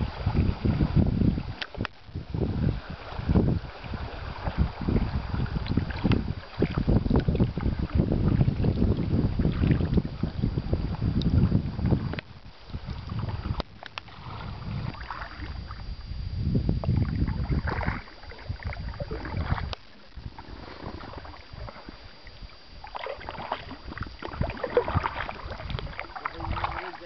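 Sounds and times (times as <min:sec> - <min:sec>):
water splashing and lapping: 0:00.0 - 0:15.9, 0:16.8 - 0:27.0
wind rumbling on microphone: 0:00.0 - 0:27.0.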